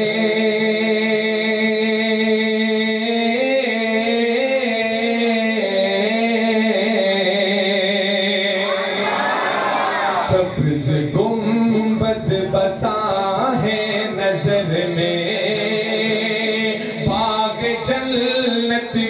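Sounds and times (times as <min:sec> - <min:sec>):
man chanting into a microphone: 0:00.0 - 0:09.0, 0:10.0 - 0:19.0.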